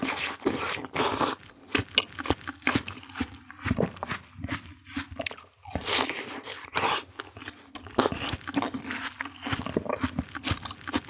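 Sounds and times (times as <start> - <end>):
crunchy bites of juicy fruit: 0.0 - 11.0
smacking chews: 0.0 - 11.0.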